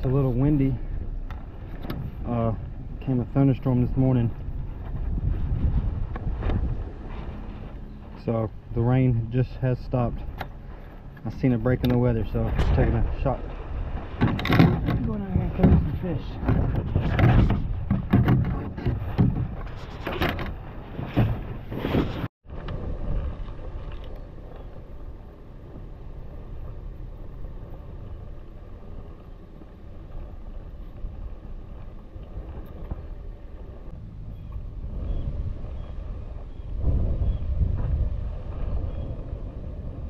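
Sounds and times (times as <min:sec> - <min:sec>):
steady wind rush: 0:00.0 - 0:40.0
wind buffeting microphone: 0:00.0 - 0:40.0.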